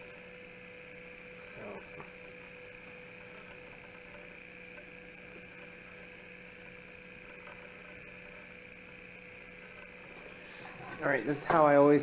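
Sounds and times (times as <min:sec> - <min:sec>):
low even hum: 0:00.0 - 0:12.0.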